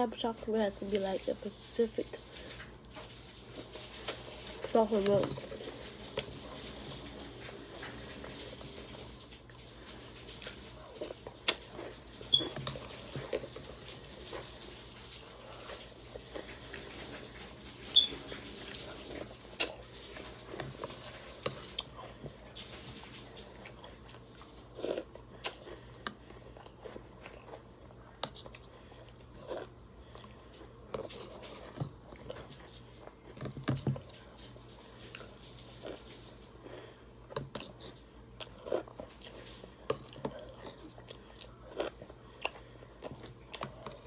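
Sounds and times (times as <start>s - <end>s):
person chewing crunchy cereal: 2.2s - 44.0s.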